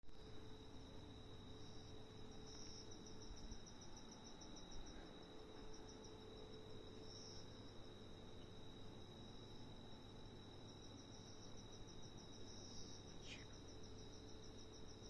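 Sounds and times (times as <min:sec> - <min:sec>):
insect pulsed trill: 0:00.1 - 0:15.0
insect high-pitched buzz: 0:00.2 - 0:15.0.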